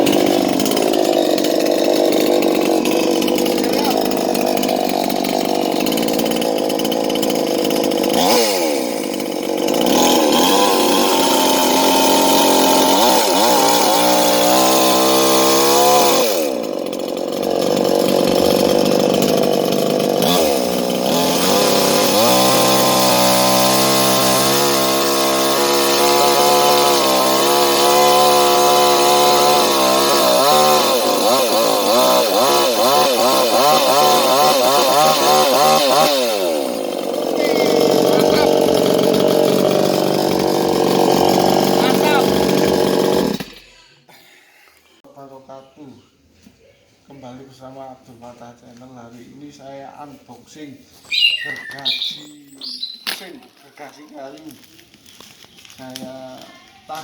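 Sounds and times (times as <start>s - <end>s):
chainsaw engine revving: 0.0s - 43.9s, 51.1s - 53.5s.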